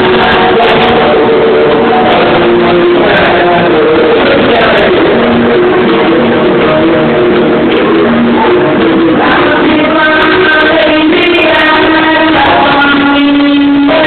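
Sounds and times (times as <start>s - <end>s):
loud amplified live music: 0.0s - 14.0s
person singing long notes: 0.0s - 14.0s.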